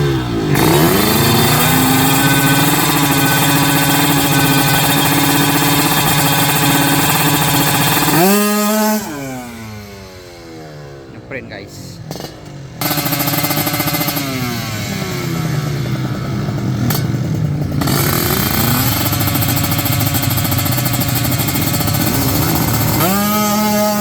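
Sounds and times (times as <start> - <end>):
motorcycle engines at full throttle: 0.0 - 24.0.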